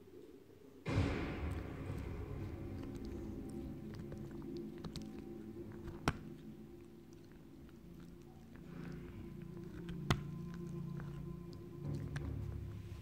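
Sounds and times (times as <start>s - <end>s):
puppy gnawing bone: 1.5s - 13.0s.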